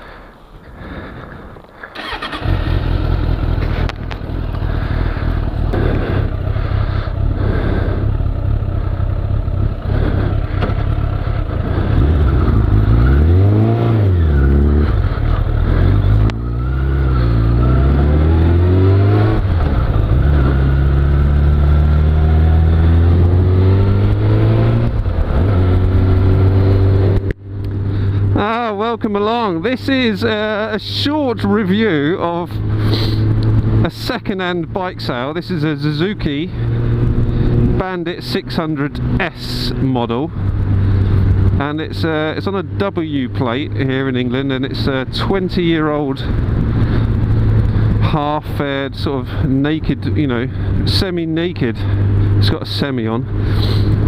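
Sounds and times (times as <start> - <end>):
motorcycle engine revving: 1.9 - 54.0.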